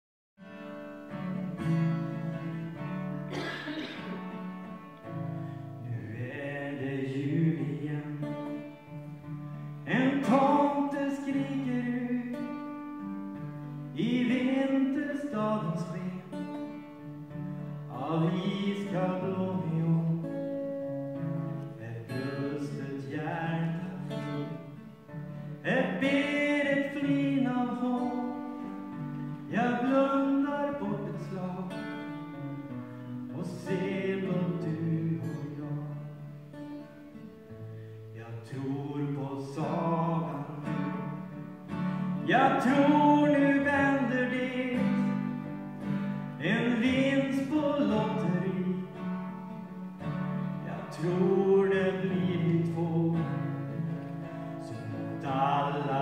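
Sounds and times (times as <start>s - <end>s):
acoustic guitar chords: 0.4s - 56.0s.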